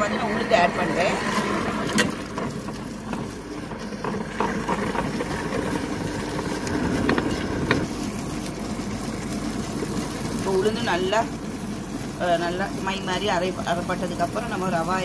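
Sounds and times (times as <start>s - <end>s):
wet grinder humming: 0.0s - 15.0s.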